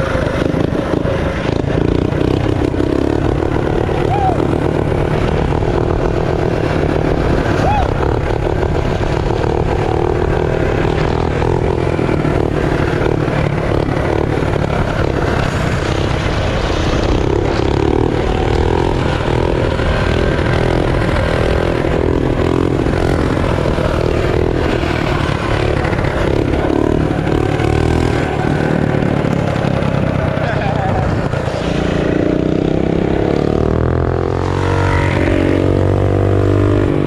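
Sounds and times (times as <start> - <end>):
mini bike engine revving: 0.0 - 37.0.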